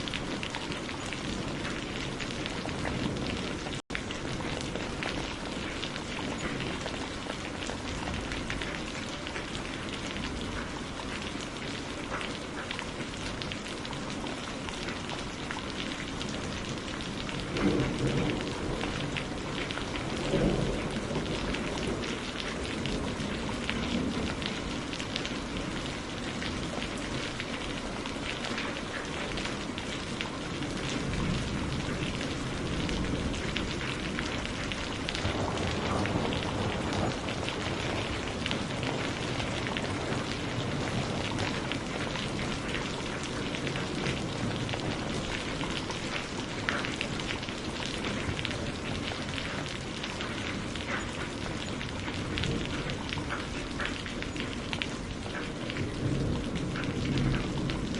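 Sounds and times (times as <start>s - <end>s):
distant thunder rumbles: 0.0s - 57.9s
rain pattering: 0.0s - 57.9s.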